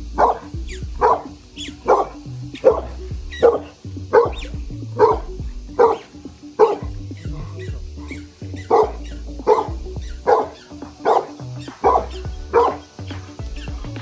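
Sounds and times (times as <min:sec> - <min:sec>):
dog barking: 0:00.2 - 0:06.9, 0:08.1 - 0:12.9.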